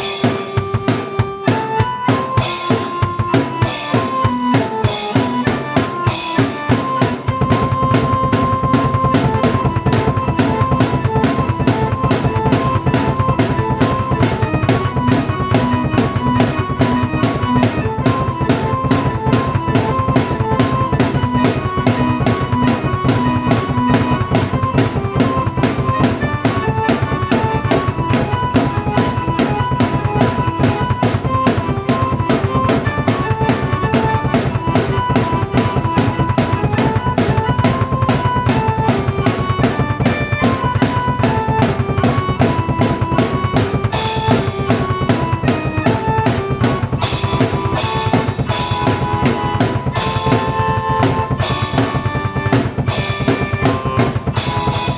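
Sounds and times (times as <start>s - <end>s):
fast drum beat: 0.0s - 54.9s
keyboard melody and chords: 0.0s - 54.9s.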